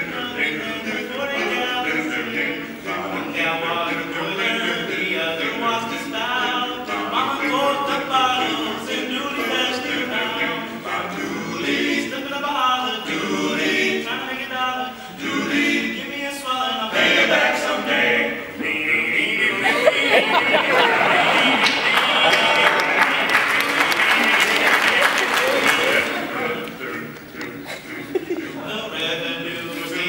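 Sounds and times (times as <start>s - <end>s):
male quartet singing a cappella: 0.0s - 30.0s.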